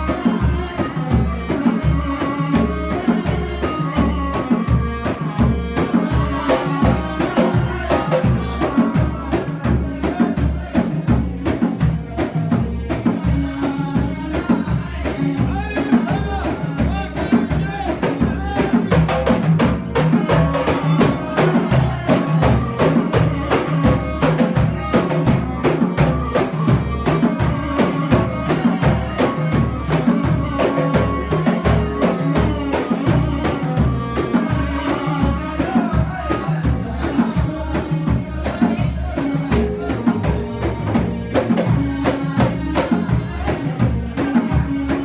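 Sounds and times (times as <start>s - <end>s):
hand drums beating: 0.0s - 45.0s.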